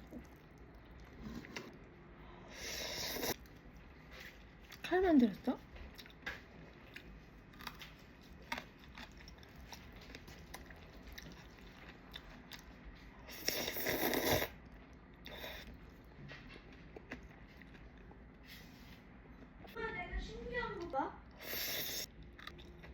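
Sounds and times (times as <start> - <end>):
soft chewing: 0.0 - 19.7, 20.8 - 22.9.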